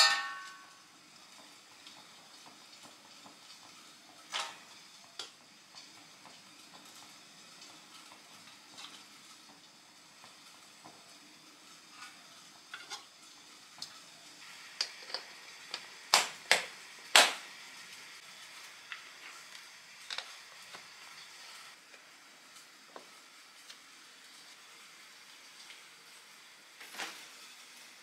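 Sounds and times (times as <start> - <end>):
chicken sizzling in a wok: 0.0 - 28.0.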